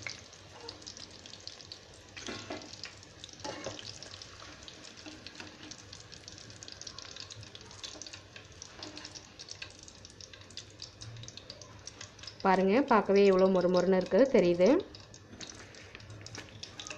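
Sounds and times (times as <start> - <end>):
quail deep-frying in oil: 0.0 - 16.9.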